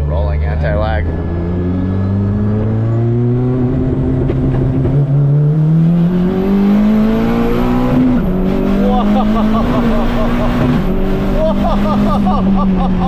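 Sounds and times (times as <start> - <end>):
turbocharged car engine accelerating: 0.0 - 13.0.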